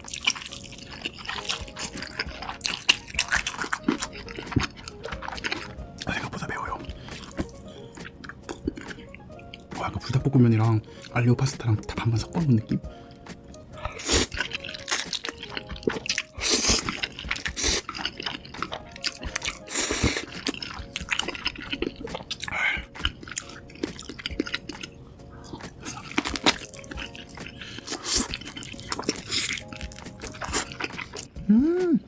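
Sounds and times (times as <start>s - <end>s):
wet chewing and mouth smacks: 0.0s - 6.2s, 6.8s - 9.8s, 13.1s - 31.3s.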